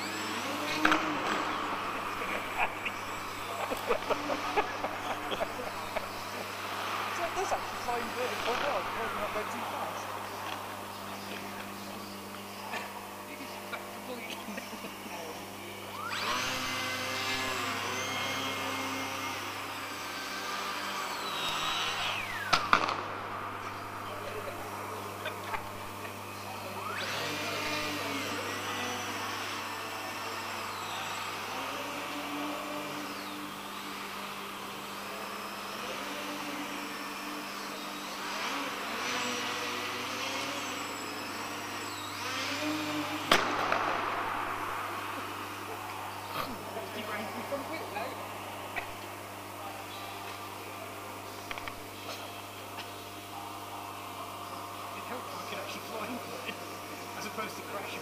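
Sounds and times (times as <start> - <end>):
model aircraft motor whining: 0.0 - 58.0.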